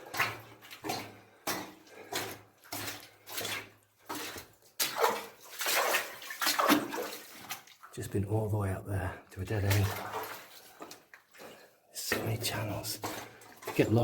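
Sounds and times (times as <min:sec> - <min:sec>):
footsteps wading through water: 0:00.0 - 0:14.0.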